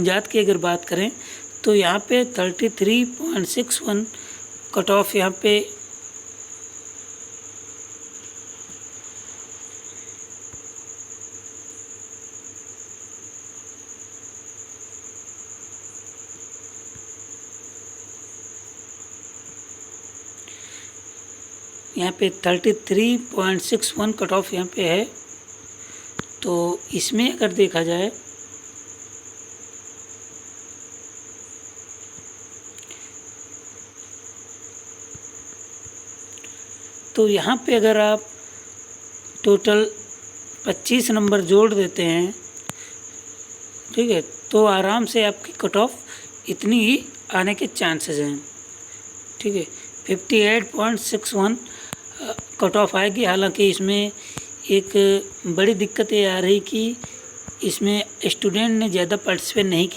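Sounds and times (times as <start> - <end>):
cricket trilling: 0.0 - 59.9.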